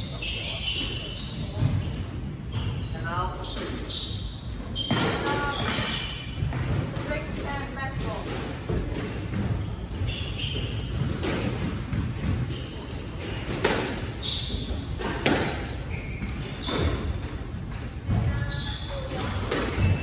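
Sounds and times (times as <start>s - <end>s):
sneakers squeaking on wooden floor: 0.0s - 20.0s
squash ball hitting rackets and walls: 0.0s - 20.0s.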